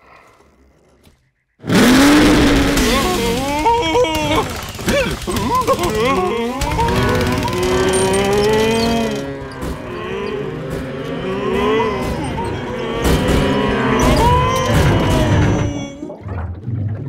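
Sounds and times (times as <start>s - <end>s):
knocks of tractors falling: 1.6s - 15.9s
cartoon tractors mooing: 1.6s - 16.1s.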